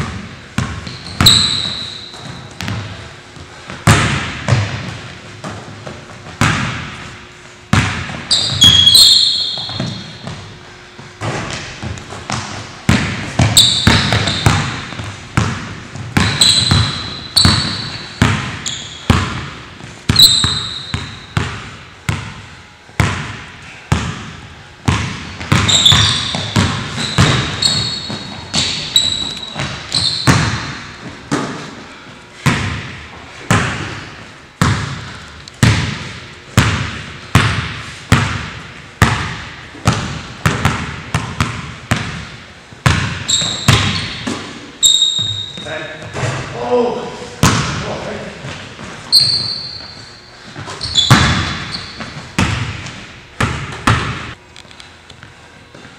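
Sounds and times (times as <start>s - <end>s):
basketball bouncing on wooden floor: 0.0s - 2.9s, 3.8s - 7.0s, 7.7s - 10.4s, 11.0s - 22.4s, 23.0s - 31.6s, 32.4s - 34.0s, 34.6s - 46.4s, 47.4s - 47.8s, 50.6s - 54.4s
sneakers squeaking: 0.0s - 54.4s.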